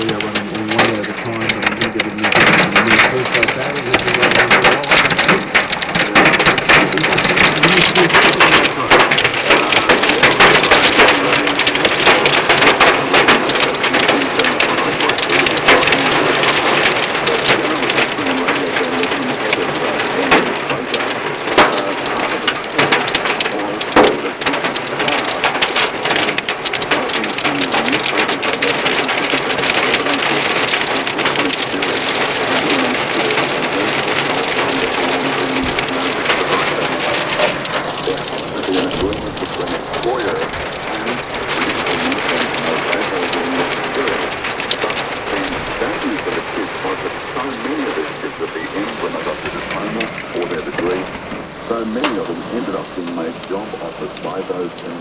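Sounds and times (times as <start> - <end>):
hail pelting car metal: 0.0 - 55.0.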